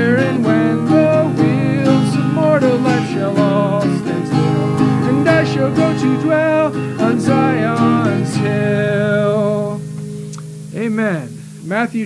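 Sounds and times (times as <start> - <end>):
man singing hymn: 0.0 - 9.9
strummed acoustic guitar: 0.0 - 11.8.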